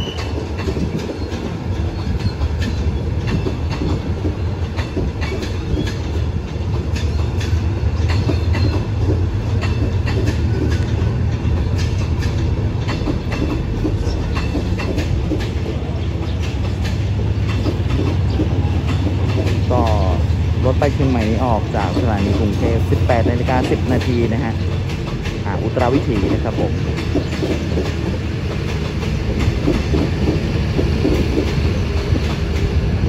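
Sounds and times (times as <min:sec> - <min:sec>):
train rumbling past: 0:00.0 - 0:33.0
wheels clacking over rail joints: 0:00.0 - 0:33.0.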